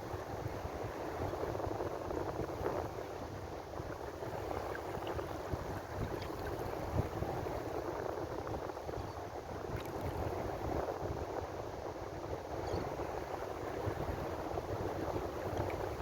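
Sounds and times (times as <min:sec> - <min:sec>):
ocean waves washing on shore: 0:00.0 - 0:16.0.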